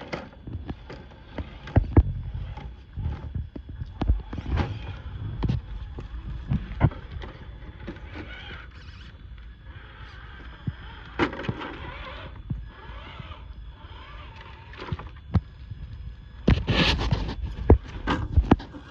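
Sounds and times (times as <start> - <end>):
electric motor whine: 0.0 - 18.9.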